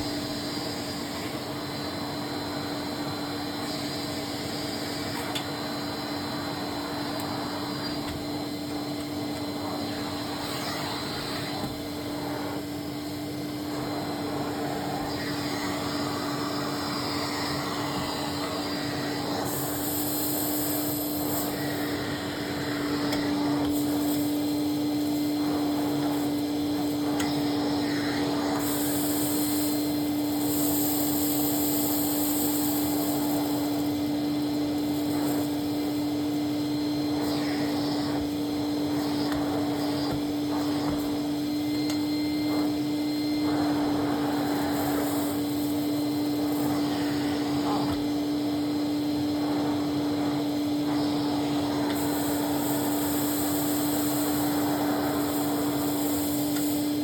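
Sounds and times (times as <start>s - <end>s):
vacuum cleaner motor whine: 0.0s - 57.0s
high hiss: 9.6s - 57.0s.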